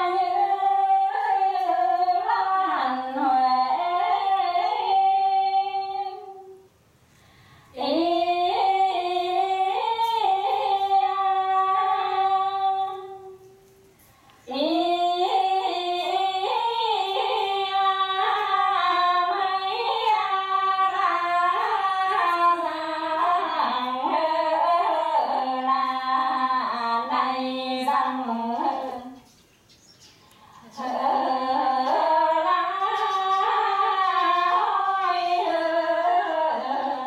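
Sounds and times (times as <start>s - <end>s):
two women singing folk duet: 0.0s - 6.6s, 7.8s - 13.6s, 14.3s - 29.3s, 30.5s - 37.0s.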